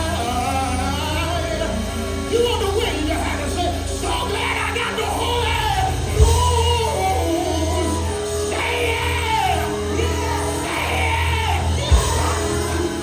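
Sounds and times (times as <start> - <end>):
gospel band music: 0.0 - 13.0
voices singing and shouting: 0.0 - 13.0.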